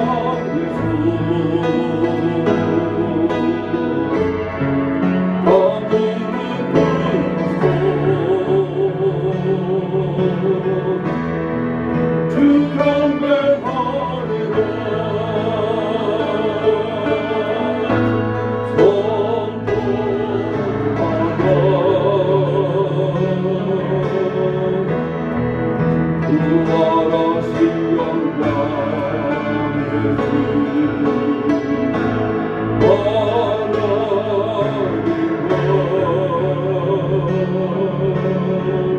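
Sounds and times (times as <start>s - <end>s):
instrumental accompaniment: 0.0s - 38.9s
voices singing a hymn: 0.0s - 38.9s.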